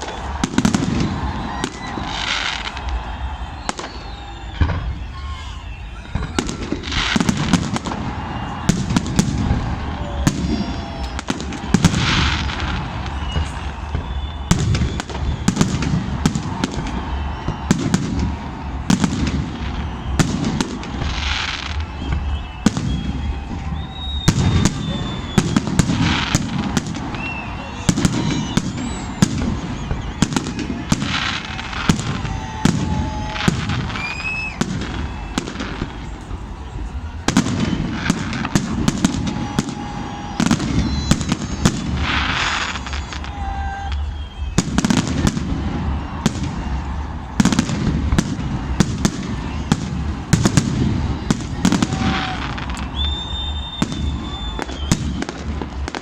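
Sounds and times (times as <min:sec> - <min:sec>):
crowd chatter: 0:00.0 - 0:56.0
firework whistles: 0:00.0 - 0:56.0
fireworks bangs and crackles: 0:00.0 - 0:56.0.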